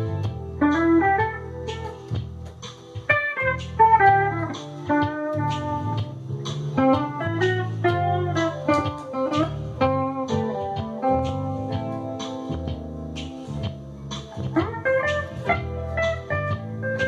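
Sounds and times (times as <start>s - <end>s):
electric guitar lead with bends: 0.0s - 17.0s
sustained low keyboard chords: 0.0s - 17.0s.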